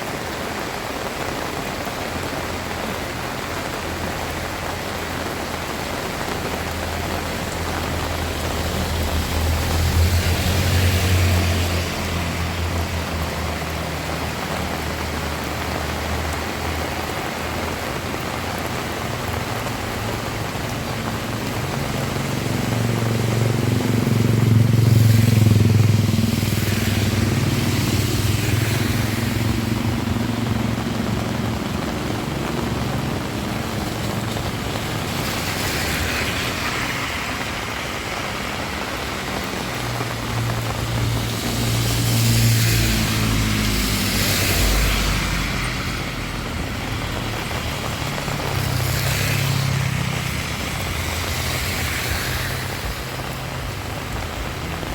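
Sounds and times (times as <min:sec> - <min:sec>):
rain hissing: 0:00.0 - 0:54.9
vehicles passing on wet road: 0:00.0 - 0:54.9.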